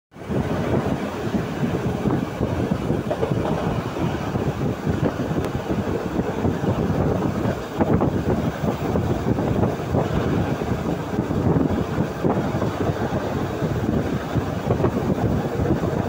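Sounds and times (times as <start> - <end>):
train wheels rumbling on rail: 0.1 - 16.0.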